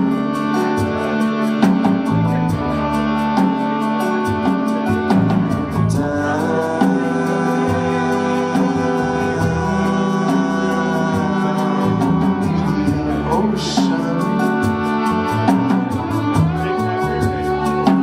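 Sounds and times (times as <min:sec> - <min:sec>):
drums: 0:00.0 - 0:18.0
fiddle: 0:00.0 - 0:18.0
strummed acoustic guitar: 0:00.0 - 0:18.0
upright bass: 0:00.0 - 0:18.0.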